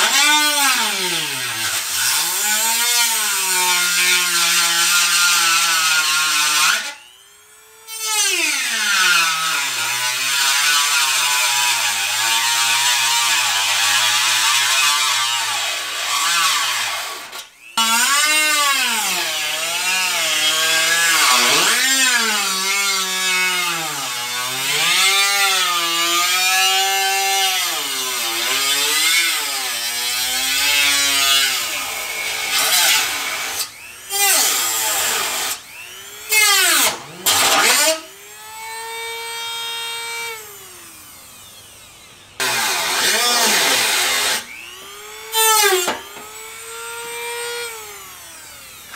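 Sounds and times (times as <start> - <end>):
rotary tool grinding metal: 0.0 - 48.9.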